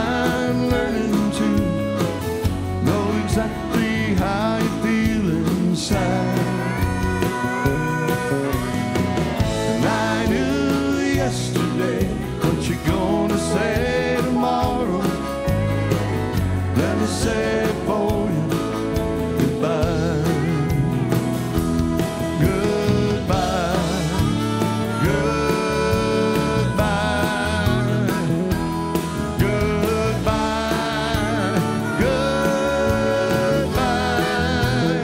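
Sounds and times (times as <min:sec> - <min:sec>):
country-rock band playing: 0:00.0 - 0:35.0
harmonica solo: 0:00.0 - 0:35.0.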